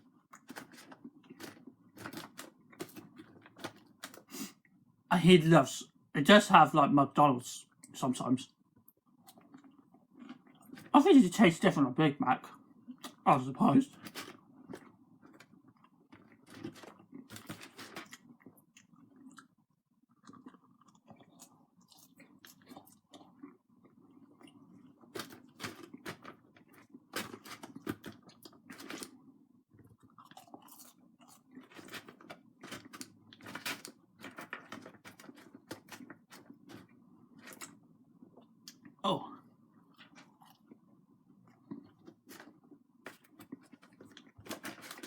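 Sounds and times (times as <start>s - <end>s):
close-up chewing: 0.0s - 4.6s, 9.0s - 11.0s, 12.4s - 13.2s, 14.0s - 39.0s, 39.7s - 45.0s.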